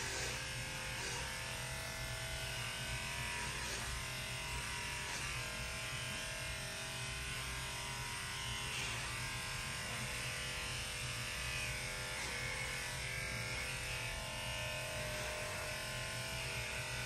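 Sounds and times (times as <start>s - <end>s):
electric clippers running: 0.0s - 17.0s.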